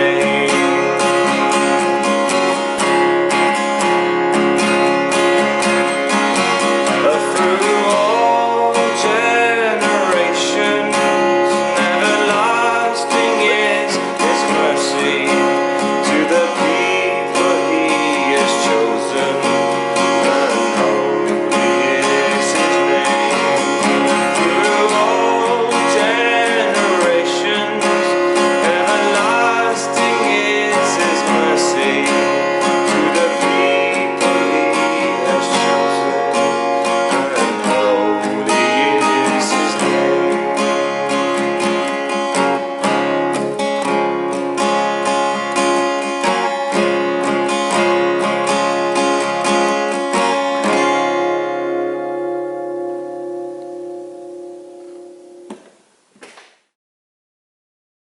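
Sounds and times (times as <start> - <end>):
acoustic guitar strumming: 0.0 - 56.5.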